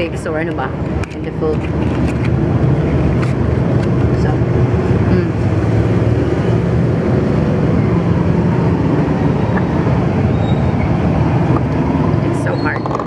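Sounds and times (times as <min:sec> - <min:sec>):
loud low rumbling: 0:00.0 - 0:13.0.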